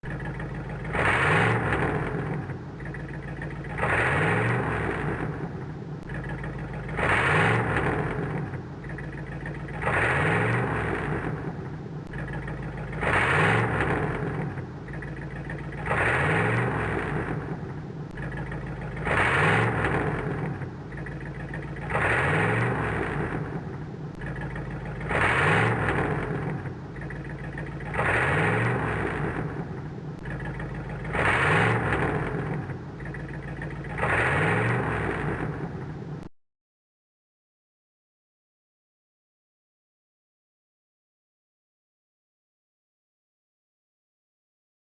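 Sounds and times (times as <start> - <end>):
car engine revving: 0.0 - 36.3.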